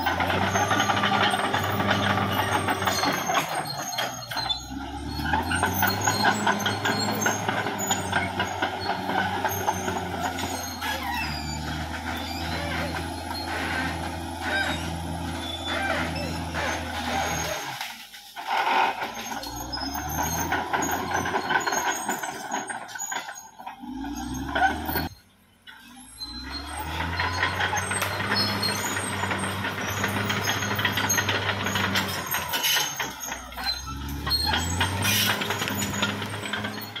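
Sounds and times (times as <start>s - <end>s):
bulldozer diesel engine: 0.0s - 37.0s
metallic clanks and squeaks: 0.0s - 37.0s.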